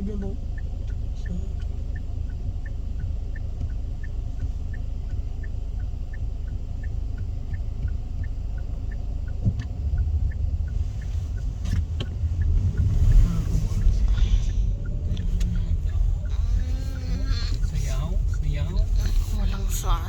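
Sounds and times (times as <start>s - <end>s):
car engine idling: 0.0s - 20.0s
indicator relay ticking: 0.0s - 20.0s.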